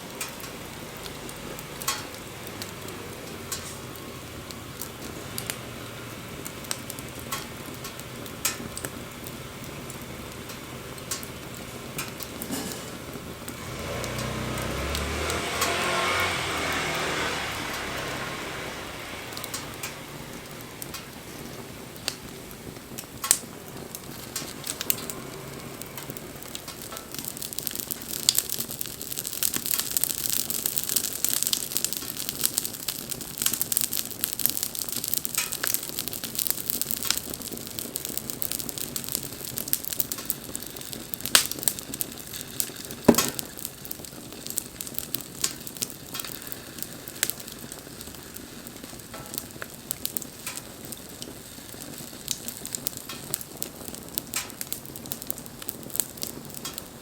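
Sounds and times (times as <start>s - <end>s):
bonfire crackling and hissing: 0.0s - 57.0s
fire pops: 0.0s - 57.0s.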